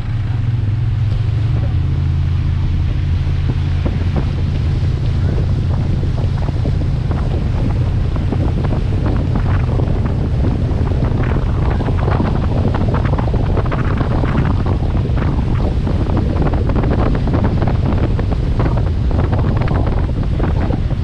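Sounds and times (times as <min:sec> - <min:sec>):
motorboat engine rumble: 0:00.0 - 0:21.0
water rushing and splashing: 0:00.0 - 0:21.0
wind buffeting microphone: 0:00.0 - 0:21.0.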